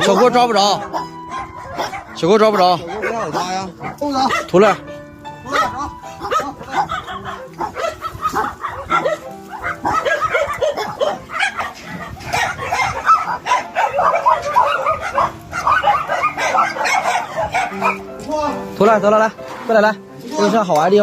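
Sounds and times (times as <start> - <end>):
background music low tones: 0.0 - 21.0
dogs barking and yipping: 0.0 - 21.0.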